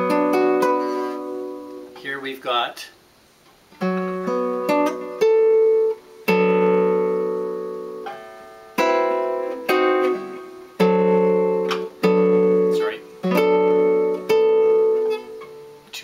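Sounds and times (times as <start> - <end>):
plucked guitar notes: 0.0 - 2.2, 3.7 - 16.0
guitar chords ringing: 0.0 - 2.6, 3.7 - 16.0.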